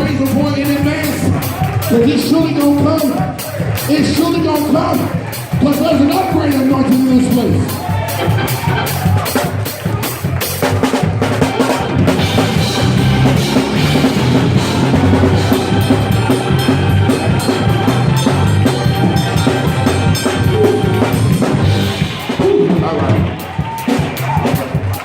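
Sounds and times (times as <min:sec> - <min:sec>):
drum kit with cymbals: 0:00.0 - 0:25.0
up-tempo gospel band music: 0:00.0 - 0:25.0.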